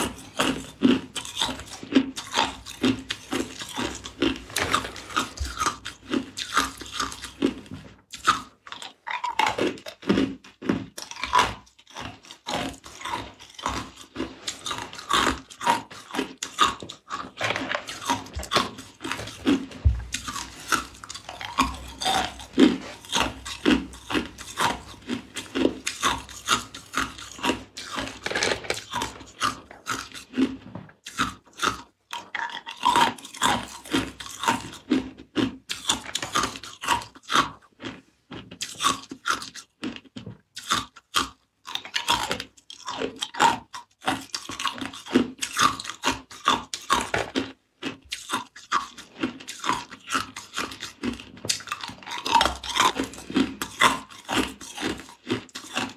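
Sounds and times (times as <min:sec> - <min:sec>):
person chewing ice cubes: 0:00.0 - 0:55.9.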